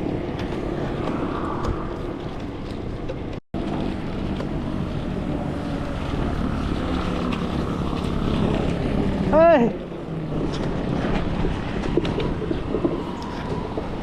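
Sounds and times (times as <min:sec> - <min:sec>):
low engine hum of traffic: 0:00.0 - 0:14.0
wind and road noise: 0:00.0 - 0:14.0.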